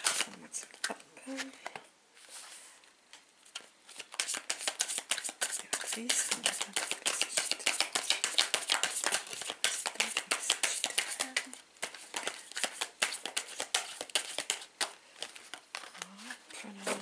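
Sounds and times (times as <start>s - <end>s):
cards being shuffled: 0.0s - 2.5s, 3.1s - 17.0s.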